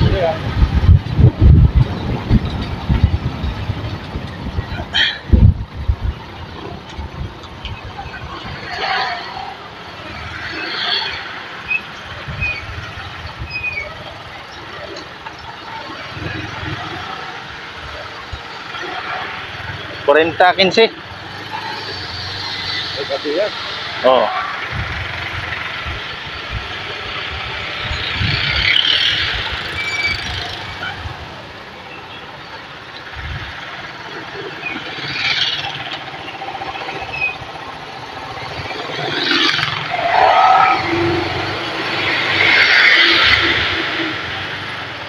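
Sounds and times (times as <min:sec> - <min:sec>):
motorcycle tricycle passing: 0:00.0 - 0:45.0
street traffic: 0:00.0 - 0:45.0
wind and road noise: 0:00.0 - 0:45.0.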